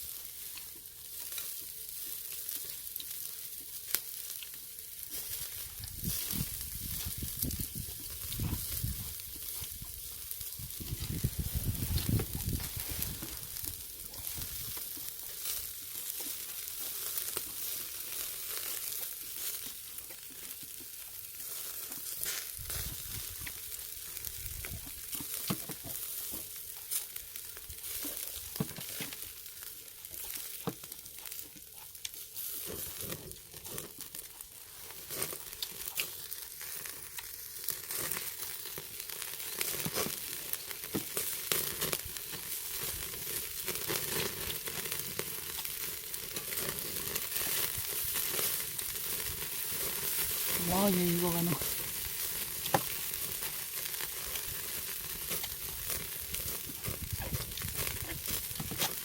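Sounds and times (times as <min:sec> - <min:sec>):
fat popping on hot coals: 0:00.0 - 0:59.0
meat sizzling on a grill: 0:00.0 - 0:59.0.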